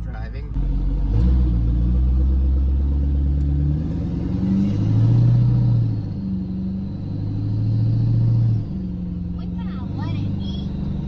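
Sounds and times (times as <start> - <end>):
truck engine rumble from inside: 0.0 - 11.0.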